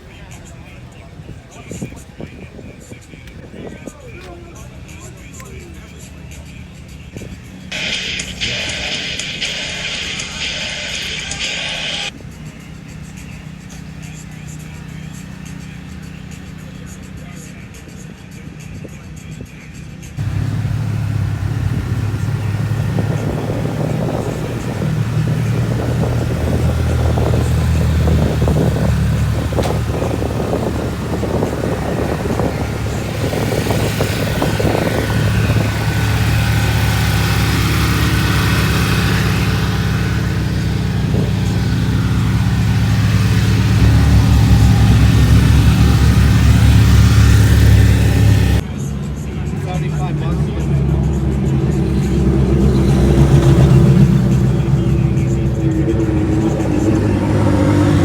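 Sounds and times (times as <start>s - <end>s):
car engine running: 0.0s - 17.9s, 20.1s - 58.0s.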